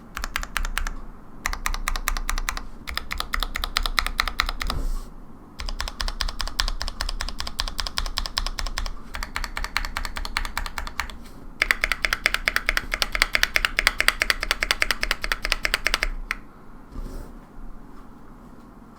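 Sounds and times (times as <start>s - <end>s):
fast typing on keyboard: 0.2s - 4.8s, 5.6s - 16.4s.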